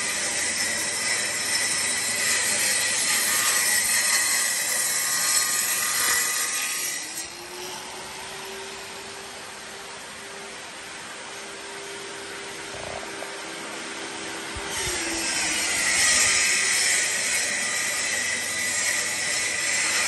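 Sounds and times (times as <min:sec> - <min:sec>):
saw cutting wood: 0:00.0 - 0:09.9, 0:12.4 - 0:20.0.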